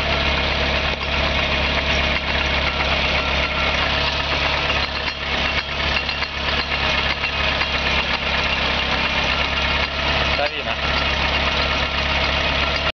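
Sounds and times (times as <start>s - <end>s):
driveshaft knocking: 0.0s - 12.9s
vehicle running: 0.0s - 12.9s.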